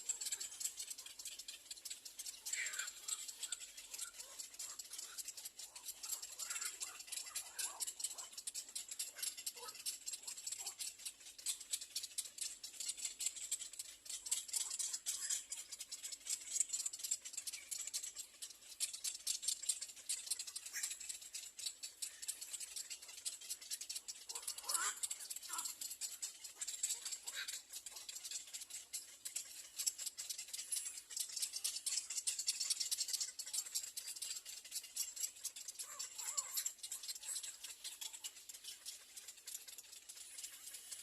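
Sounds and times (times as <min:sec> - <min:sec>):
nestlings begging rasping rattle: 0:00.0 - 0:41.0.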